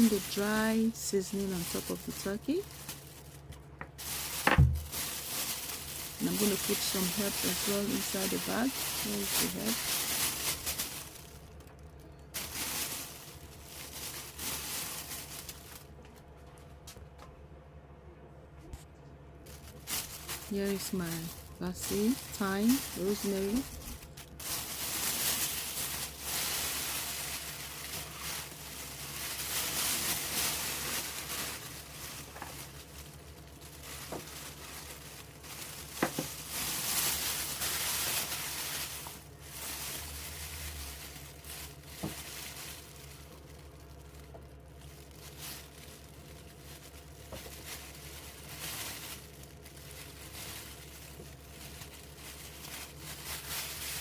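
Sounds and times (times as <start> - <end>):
plastic bag crinkling: 0.0 - 17.1, 19.3 - 54.0.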